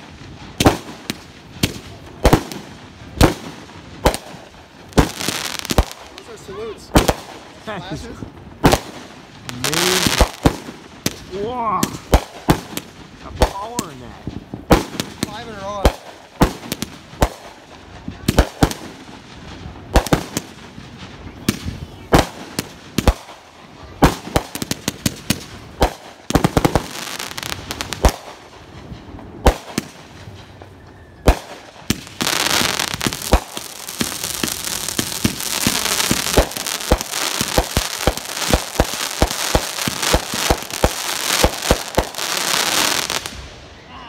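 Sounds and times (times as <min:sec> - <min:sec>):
firework bangs: 0:00.0 - 0:43.7
firework crackling barrage: 0:00.0 - 0:43.9.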